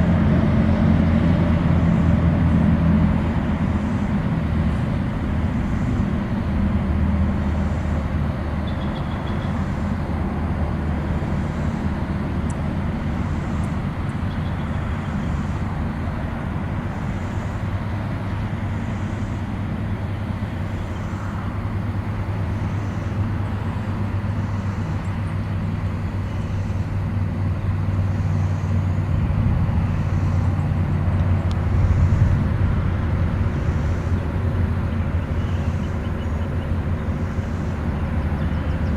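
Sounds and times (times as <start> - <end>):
highway traffic rumble: 0.0 - 38.9.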